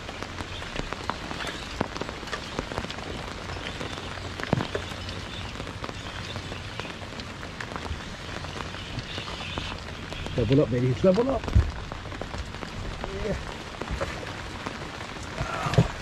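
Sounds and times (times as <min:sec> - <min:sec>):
rain falling: 0:00.0 - 0:16.0
raindrop hits: 0:00.0 - 0:16.0.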